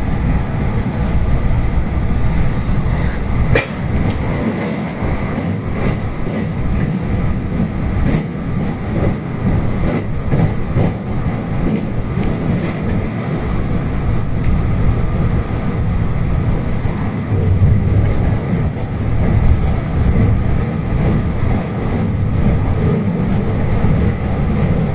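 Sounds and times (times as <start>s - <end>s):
train rumbling on rails: 0.0s - 24.9s.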